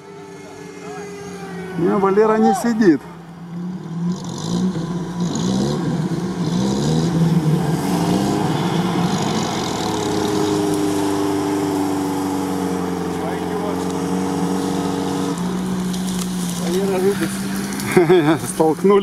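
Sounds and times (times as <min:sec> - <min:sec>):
car engine revving: 0:00.0 - 0:19.0
wheels churning mud: 0:00.0 - 0:19.0.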